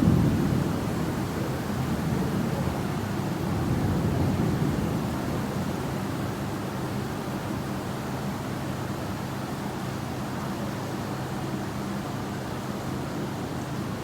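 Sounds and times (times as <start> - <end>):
steady rain hissing: 0.0 - 11.4.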